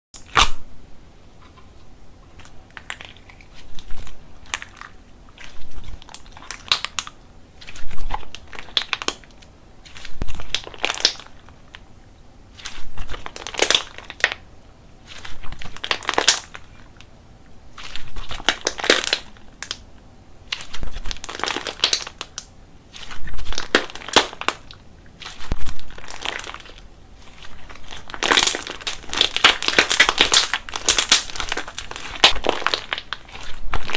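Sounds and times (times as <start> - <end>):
slime squished by hand: 2.3 - 11.8, 12.5 - 14.4, 17.7 - 33.9.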